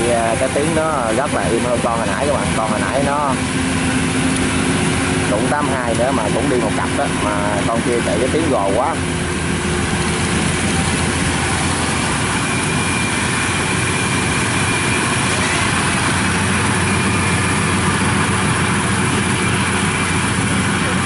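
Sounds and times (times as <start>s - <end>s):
combine harvester engine running: 0.0s - 21.0s
thin high whine: 0.0s - 21.0s.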